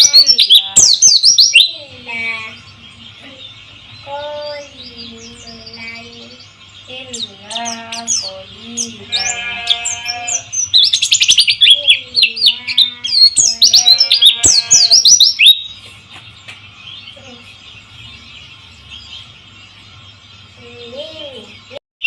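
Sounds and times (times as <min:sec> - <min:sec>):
lower wavering bird calls: 0:00.0 - 0:21.8
small bird rapid high chirping: 0:00.0 - 0:21.8.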